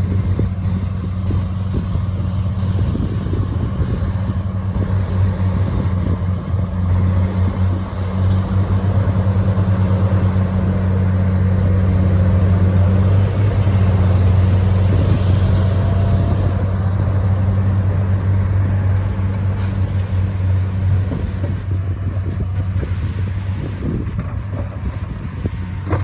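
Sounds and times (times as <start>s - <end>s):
heavy diesel engine humming: 0.0s - 26.0s.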